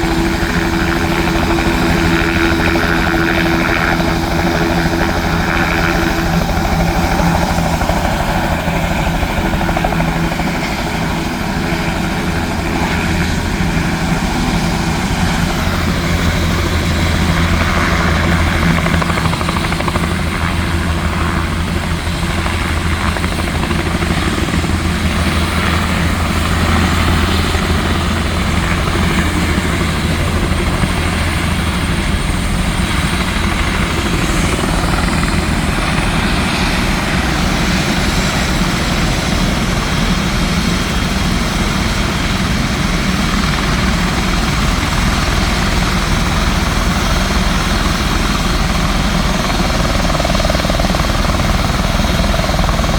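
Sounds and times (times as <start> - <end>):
helicopter rotor and turbine: 0.0 - 52.9.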